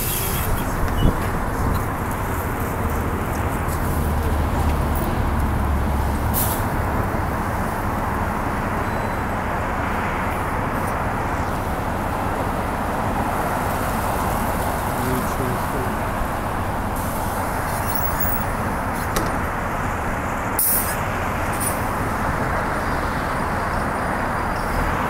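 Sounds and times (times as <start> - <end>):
bus diesel engine idling: 0.0 - 25.0
street traffic hiss: 0.0 - 25.0.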